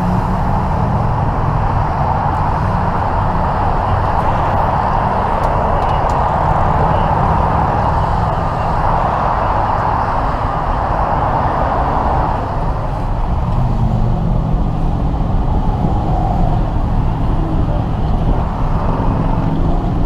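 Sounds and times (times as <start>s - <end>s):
freeway traffic rushing: 0.0s - 20.0s.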